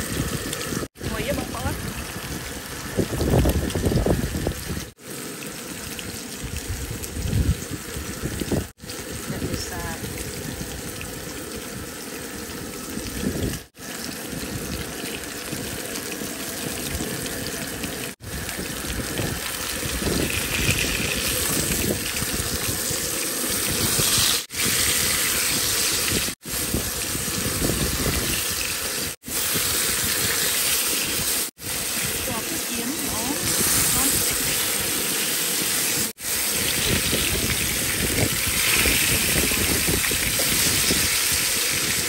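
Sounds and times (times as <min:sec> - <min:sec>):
fish sizzling in hot oil: 0:00.0 - 0:42.0.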